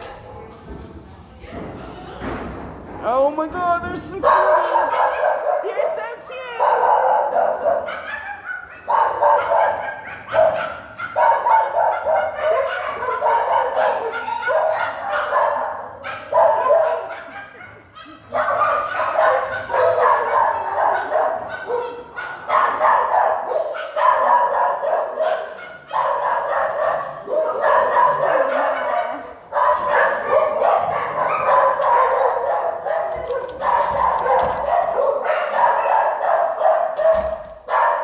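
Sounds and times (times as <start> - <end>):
many dogs barking: 4.2 - 38.0.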